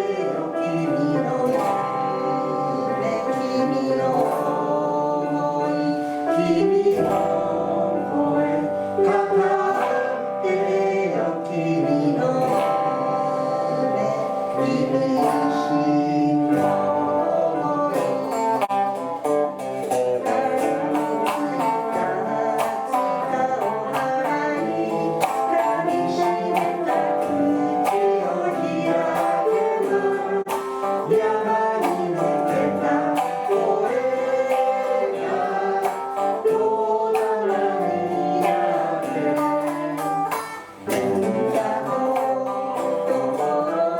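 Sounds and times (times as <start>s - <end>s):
rock song with singing: 0.0s - 43.9s.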